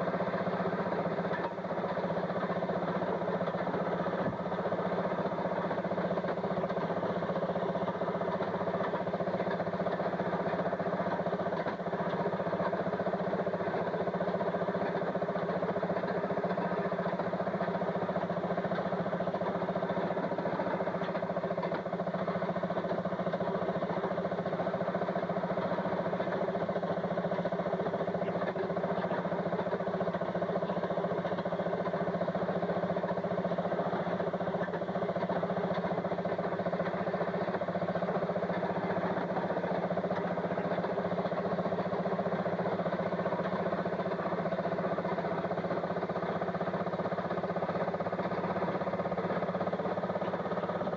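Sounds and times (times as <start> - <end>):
engine running steadily: 0.0 - 50.9.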